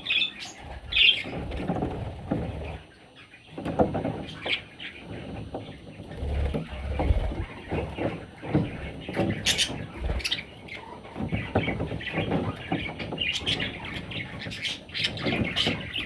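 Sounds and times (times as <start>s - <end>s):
baby birds chirping: 0.0s - 16.0s
scratching and rustling: 0.4s - 16.0s.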